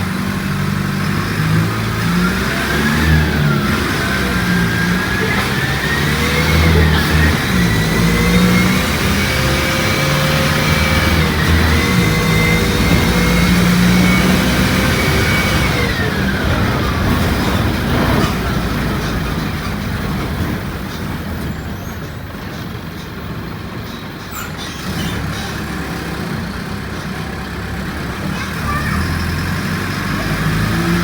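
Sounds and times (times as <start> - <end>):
bus engine whine: 0.0 - 31.0.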